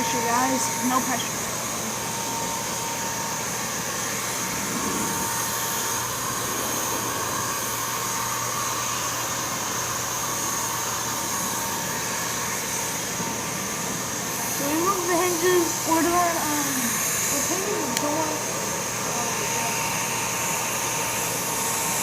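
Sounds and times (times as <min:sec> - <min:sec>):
electric paint spray gun hissing: 0:00.0 - 0:22.0.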